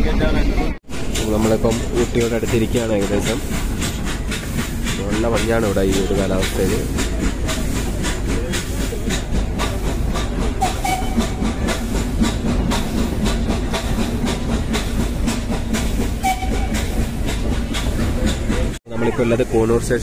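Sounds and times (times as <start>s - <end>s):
train coach rattle: 0.1s - 20.0s
steam exhaust beat: 0.8s - 19.9s.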